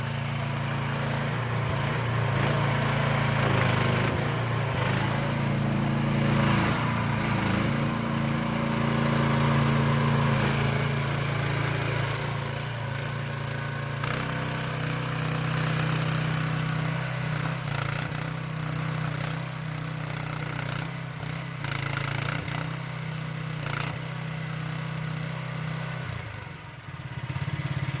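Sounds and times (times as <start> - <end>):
small excavator engine running: 0.0 - 28.0.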